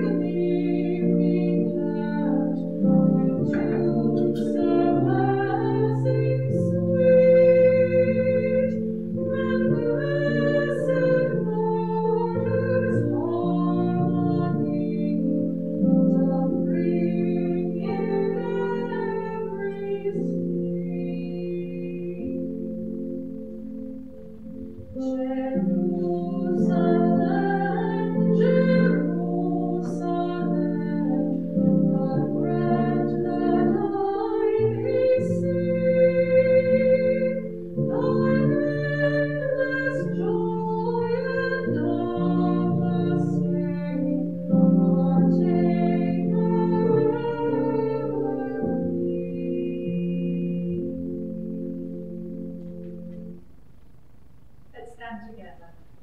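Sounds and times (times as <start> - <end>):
person singing a hymn: 0.0 - 23.2, 24.7 - 53.4
sustained keyboard chords: 0.0 - 56.0.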